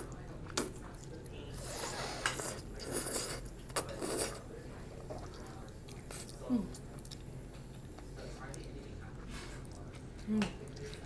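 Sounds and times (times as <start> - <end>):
noodles slurped and chewed: 0.5 - 11.0.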